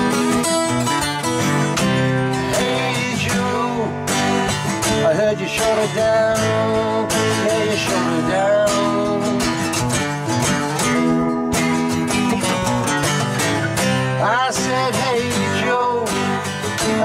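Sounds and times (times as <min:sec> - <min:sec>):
strummed guitar chords: 0:00.0 - 0:17.0
wavering guitar melody: 0:00.0 - 0:17.0.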